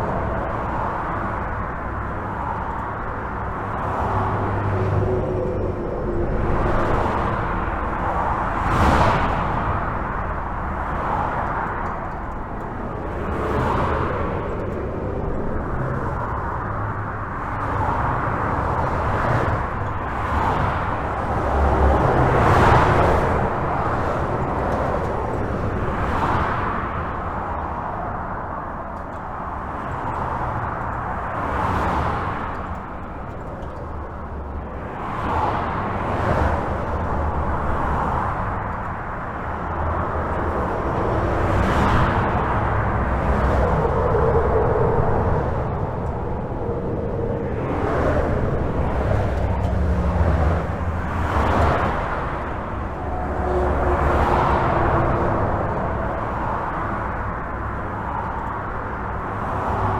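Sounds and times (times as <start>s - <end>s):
cars and trucks passing: 0.0s - 59.9s
low traffic rumble: 0.0s - 59.9s.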